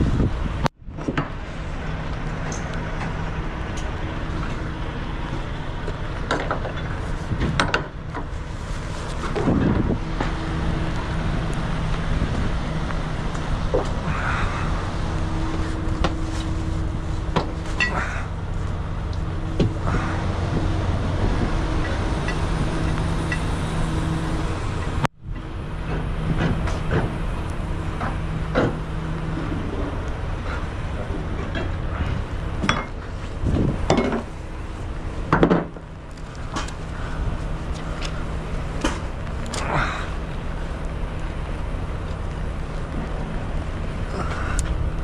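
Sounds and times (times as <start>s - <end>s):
diesel engine idling: 0.0s - 45.0s.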